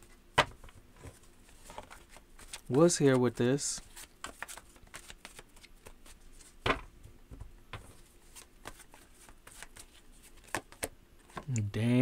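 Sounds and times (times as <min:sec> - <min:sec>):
cards being shuffled: 0:00.4 - 0:06.7, 0:07.8 - 0:11.5.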